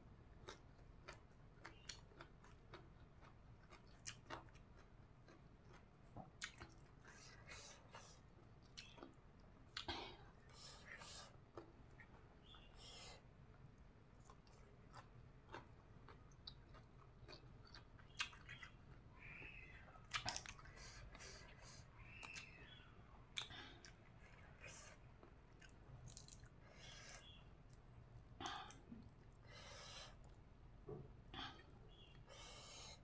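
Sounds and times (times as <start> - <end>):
person chewing food: 0.3 - 33.0.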